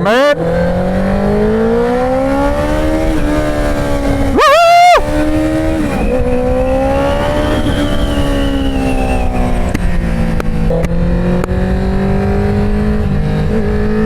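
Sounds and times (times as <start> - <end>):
engine running at high revs: 0.0 - 14.0
wind and road noise: 0.0 - 14.0.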